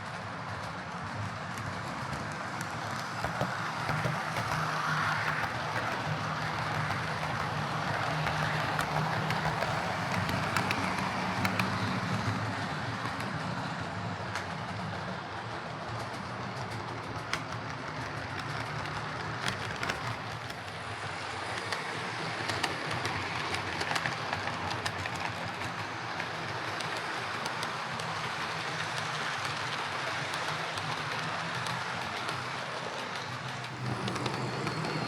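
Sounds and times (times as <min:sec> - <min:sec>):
wheels clicking over rail joints: 0:01.6 - 0:12.4, 0:14.3 - 0:35.0
model train motor hum: 0:04.6 - 0:35.0.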